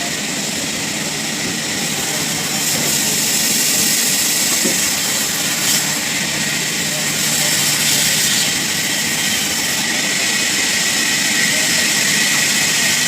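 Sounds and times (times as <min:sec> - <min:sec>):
sawmill machine hissing: 0:00.0 - 0:13.0.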